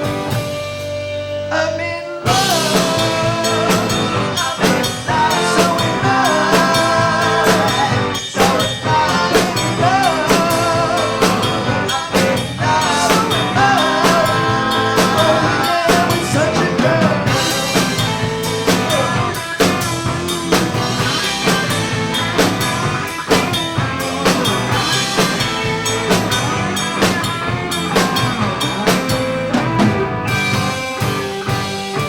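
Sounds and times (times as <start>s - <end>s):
drum kit beat: 0.0s - 1.4s, 2.3s - 32.0s
guitar playing: 2.3s - 32.0s.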